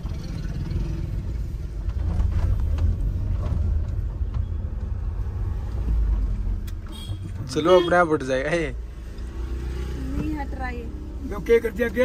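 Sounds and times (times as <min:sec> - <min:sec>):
car cabin engine and tyre rumble: 0:00.0 - 0:12.0.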